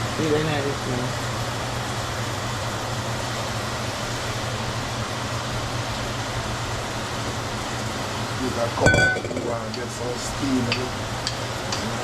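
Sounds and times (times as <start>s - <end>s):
mechanical hum with hiss: 0.0s - 12.0s.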